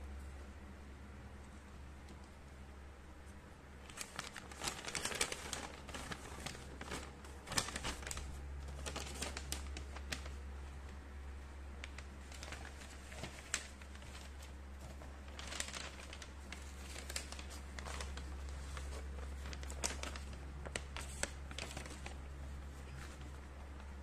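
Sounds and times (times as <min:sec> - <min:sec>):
paper rustling and crinkling: 0:03.8 - 0:11.0, 0:11.8 - 0:24.0.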